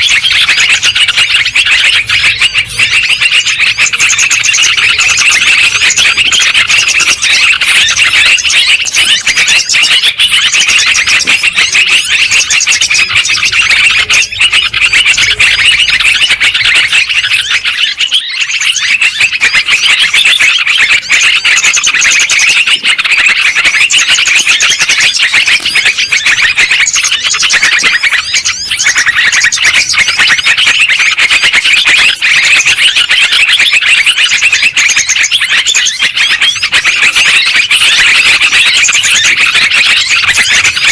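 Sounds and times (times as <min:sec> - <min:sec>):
bulbuls chattering: 0:00.0 - 0:40.9.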